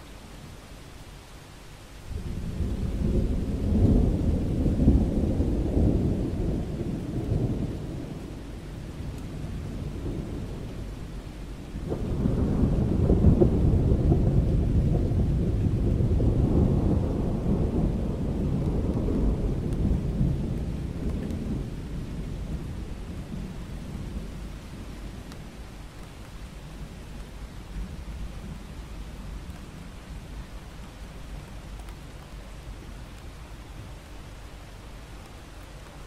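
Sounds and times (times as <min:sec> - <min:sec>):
steady rain falling: 0:00.0 - 0:36.0
thunder rumbling: 0:02.1 - 0:33.3.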